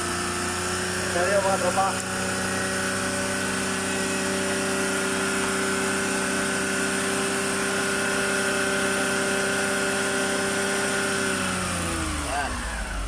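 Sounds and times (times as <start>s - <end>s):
engine running at raised idle: 0.0s - 13.0s.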